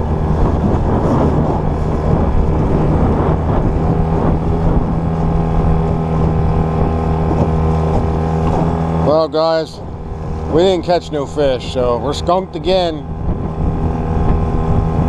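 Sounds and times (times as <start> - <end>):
outboard motor running: 0.0 - 15.0
water rushing past hull: 0.0 - 15.0
wind buffeting microphone: 0.0 - 15.0.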